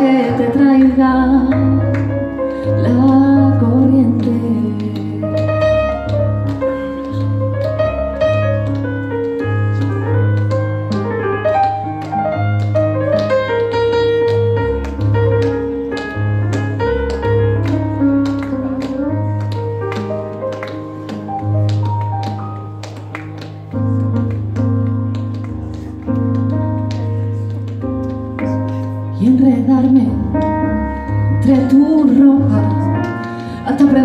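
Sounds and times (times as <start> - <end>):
stage piano music: 0.0 - 34.0
hand clapping: 4.1 - 29.5, 31.4 - 34.0.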